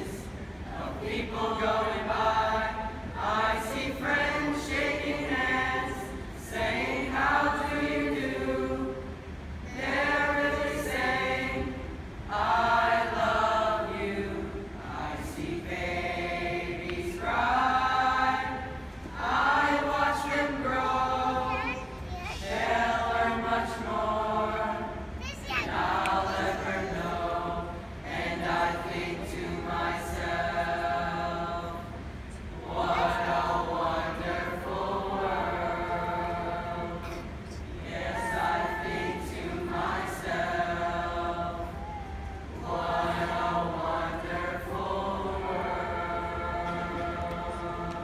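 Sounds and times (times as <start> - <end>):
mixed chorus of children singing: 0.0 - 9.1, 9.7 - 48.0.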